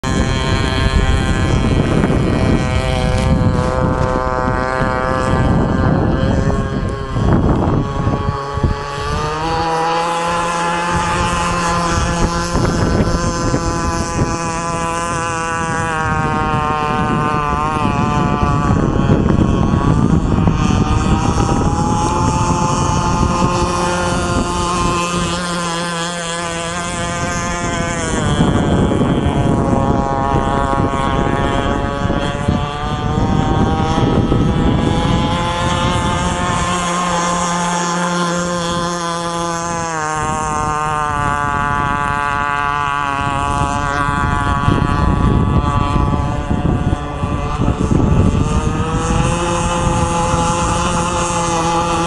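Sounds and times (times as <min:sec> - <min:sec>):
model boat engine buzzing: 0:00.0 - 0:52.0.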